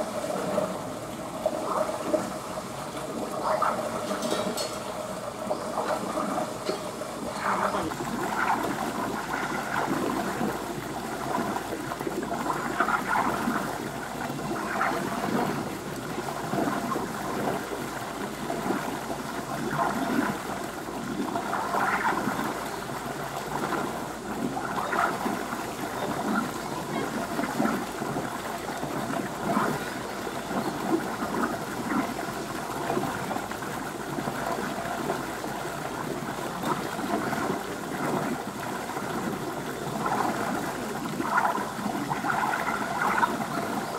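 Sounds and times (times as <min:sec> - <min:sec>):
water gurgles: 0:00.0 - 0:43.9
water trickling into pool: 0:00.0 - 0:43.9.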